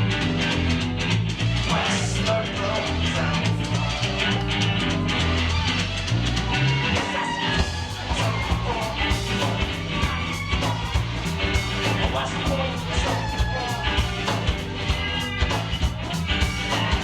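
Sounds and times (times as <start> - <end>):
bass guitar line: 0.0 - 17.0
drums: 0.0 - 17.0
electric guitar: 0.0 - 17.0.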